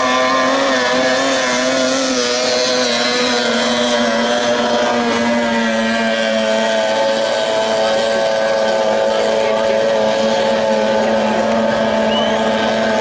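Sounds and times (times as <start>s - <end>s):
racing boat outboard engines: 0.0s - 13.0s.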